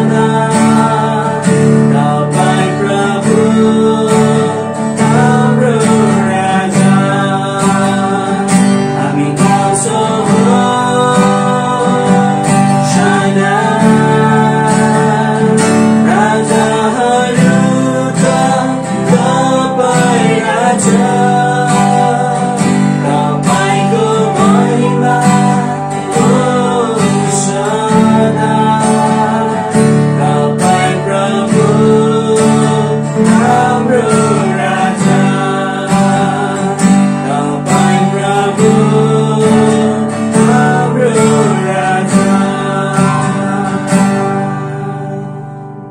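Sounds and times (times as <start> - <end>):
man and woman singing: 0.0 - 45.6
strummed acoustic guitar: 0.0 - 45.9.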